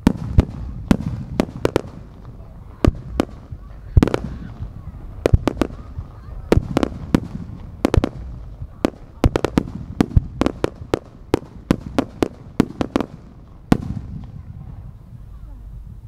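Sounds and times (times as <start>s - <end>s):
firework shells bursting: 0.0s - 14.4s.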